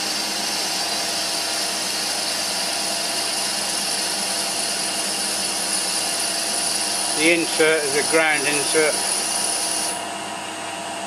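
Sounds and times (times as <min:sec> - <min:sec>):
lathe turning metal rod: 0:00.1 - 0:10.0.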